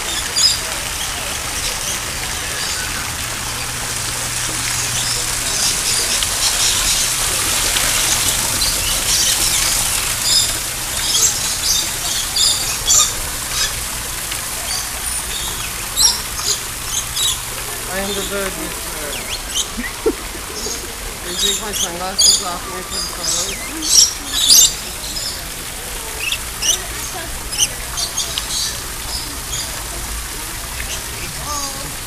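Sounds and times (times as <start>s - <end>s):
birds chirping and squawking: 0.1s - 32.0s.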